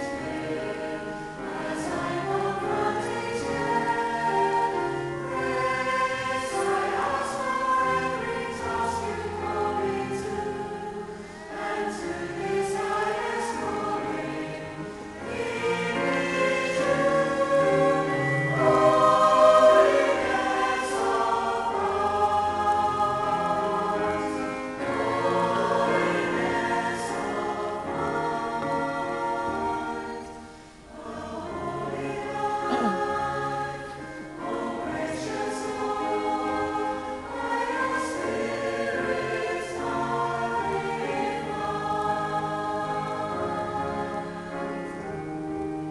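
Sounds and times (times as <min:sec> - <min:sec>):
mixed choir singing: 0:00.0 - 0:45.9.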